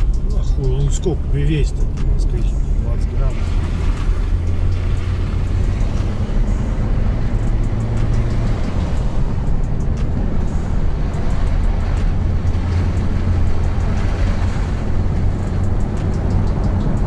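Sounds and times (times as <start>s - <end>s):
engine and tyre drone: 0.0s - 17.0s.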